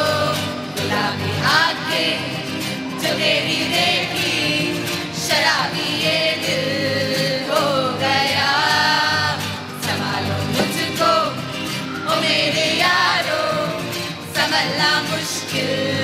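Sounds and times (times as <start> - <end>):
mixed voices singing together: 0.0 - 16.0.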